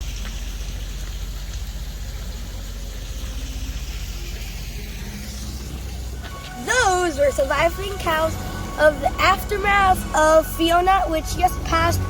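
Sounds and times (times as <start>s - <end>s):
low rumble: 0.0s - 12.0s
rain falling: 0.0s - 12.0s.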